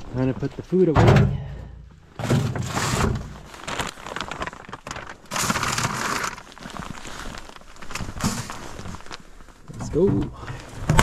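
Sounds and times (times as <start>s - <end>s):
packaging rustling and crinkling: 2.2s - 11.0s.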